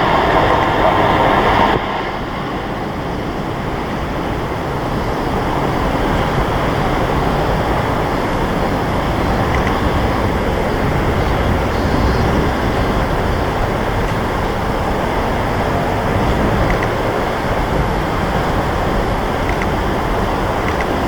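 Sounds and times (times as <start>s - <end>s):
jet engines roaring: 0.0s - 21.0s
wind buffeting microphone: 0.0s - 21.0s.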